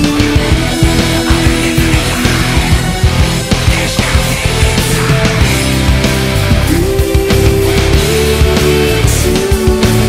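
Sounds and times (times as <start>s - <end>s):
loud heavy rock music: 0.0s - 10.0s.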